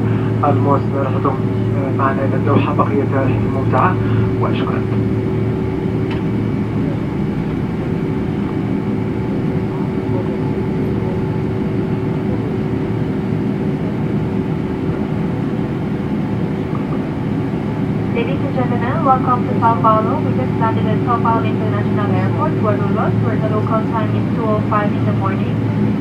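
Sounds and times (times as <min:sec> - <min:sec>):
aircraft cabin rumble: 0:00.0 - 0:26.0.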